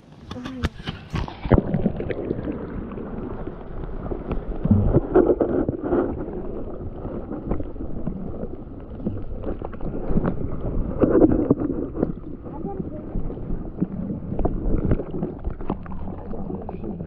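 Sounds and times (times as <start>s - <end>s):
muffled underwater water rushing: 0.0s - 17.0s.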